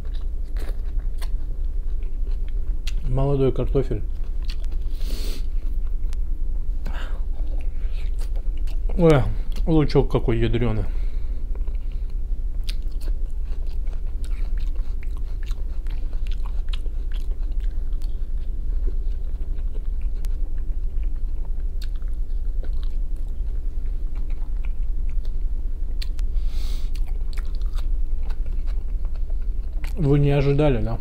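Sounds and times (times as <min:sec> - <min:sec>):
person chewing and biting food: 0:00.0 - 0:03.1, 0:04.1 - 0:06.2, 0:06.8 - 0:09.7, 0:11.5 - 0:30.2
steady low hum: 0:00.0 - 0:31.0.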